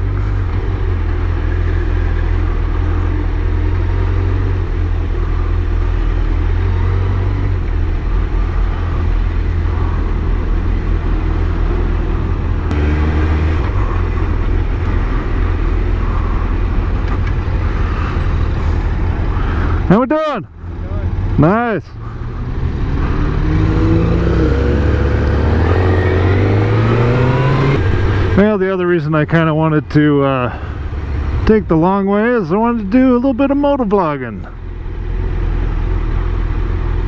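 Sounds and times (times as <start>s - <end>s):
motorcycle engine rumble: 0.0s - 37.0s
road and wind noise: 0.0s - 37.0s.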